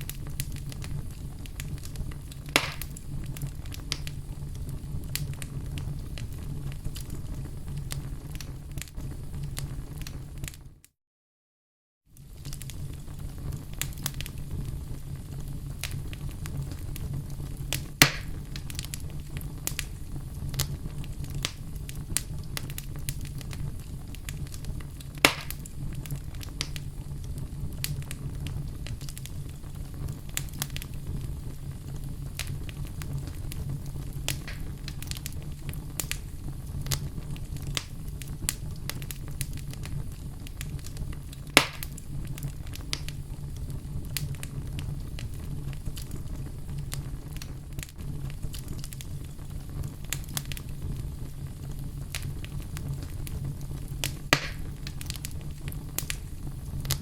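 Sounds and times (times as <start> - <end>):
fire pops: 0.0 - 10.6, 12.2 - 57.0
fire crackling: 0.0 - 10.8, 12.1 - 57.0
low rumble of flame: 0.0 - 10.9, 12.0 - 57.0.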